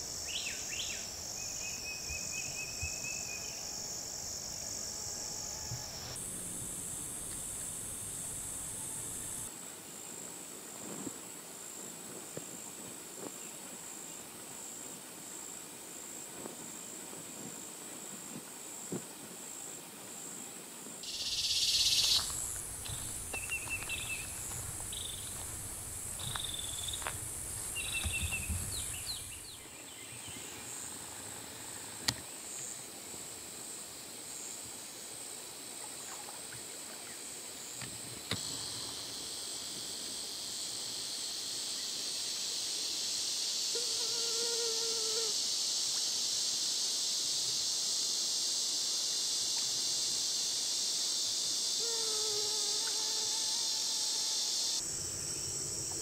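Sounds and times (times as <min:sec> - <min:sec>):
insects buzzing: 0:00.0 - 0:10.3, 0:21.0 - 0:56.0.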